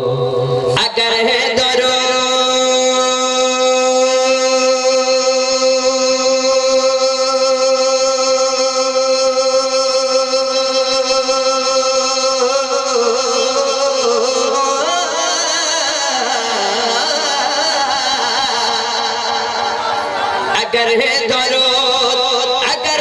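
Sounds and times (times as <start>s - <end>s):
man singing unaccompanied: 0.0s - 19.7s, 20.5s - 23.0s.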